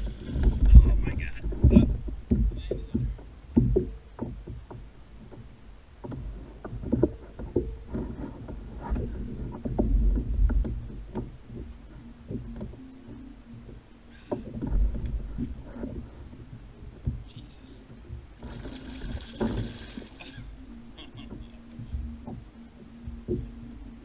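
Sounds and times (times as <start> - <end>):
low rumble of water: 0.0 - 24.0
wind rumble: 0.0 - 24.0
gear knocking on kayak hull: 0.3 - 20.0, 21.2 - 23.6.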